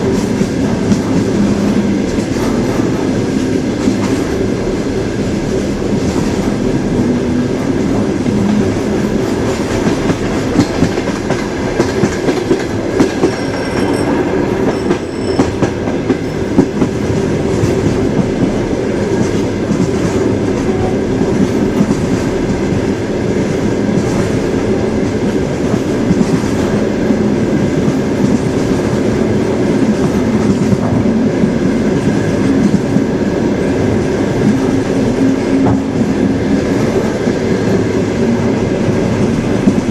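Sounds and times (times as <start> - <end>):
clickety-clack of rail joints: 0.0 - 39.9
train wheels rumbling on rails: 0.0 - 39.9.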